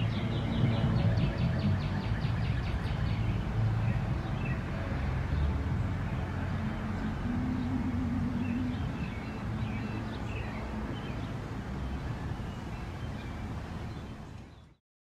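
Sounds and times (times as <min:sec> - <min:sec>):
low background rumble: 0:00.0 - 0:14.3.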